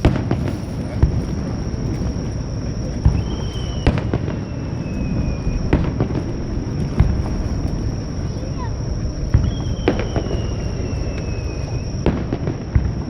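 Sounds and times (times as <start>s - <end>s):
firework shells bursting: 0.0s - 13.0s
low rumble: 0.0s - 13.0s
whistling fireworks: 0.0s - 13.0s.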